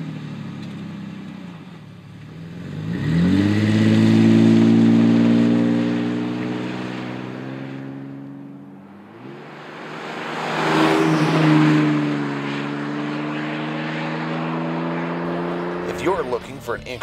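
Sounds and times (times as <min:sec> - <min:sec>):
truck engine passing by: 0:02.6 - 0:17.0.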